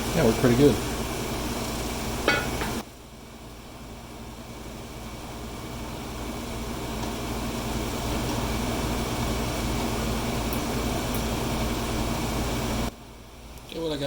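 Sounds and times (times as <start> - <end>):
motor-driven machine running: 0.0 - 14.0.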